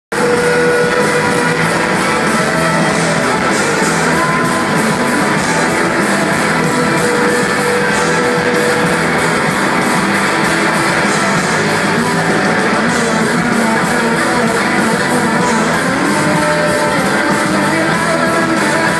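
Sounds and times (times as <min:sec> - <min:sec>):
live rock band: 0:00.1 - 0:18.9.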